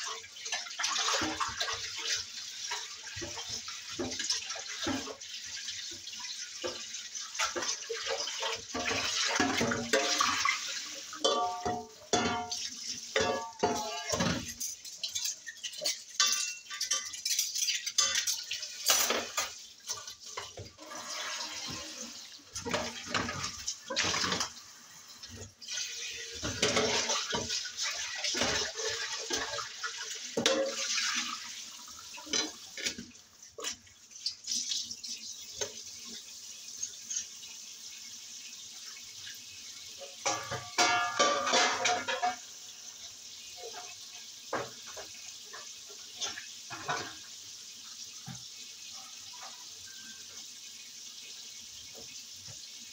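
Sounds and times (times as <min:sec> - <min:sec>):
dishes and utensils clinking: 0:00.0 - 0:05.2, 0:06.0 - 0:34.4, 0:40.0 - 0:42.9, 0:43.6 - 0:47.3, 0:48.2 - 0:50.4
water running from tap: 0:00.0 - 0:52.9.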